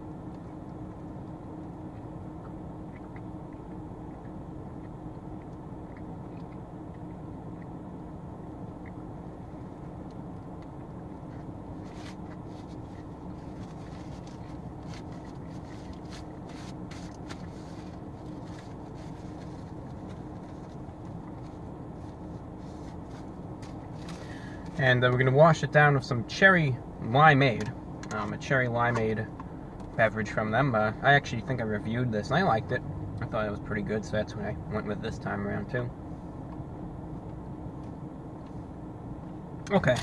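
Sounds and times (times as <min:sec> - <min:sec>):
car idling hum: 0:00.0 - 0:40.0.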